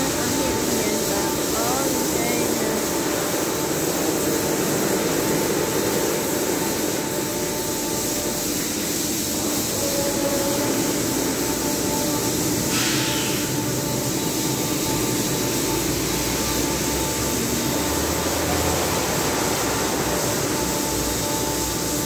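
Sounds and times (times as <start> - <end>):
air dryer blowers: 0.0 - 22.0.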